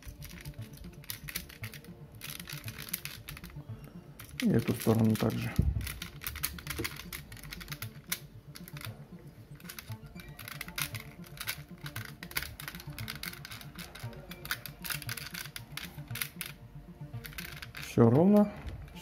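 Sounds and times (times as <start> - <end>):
plastic toy parts clicking: 0.0 - 3.6, 4.2 - 16.6, 17.2 - 19.0
faint background music: 0.0 - 19.0.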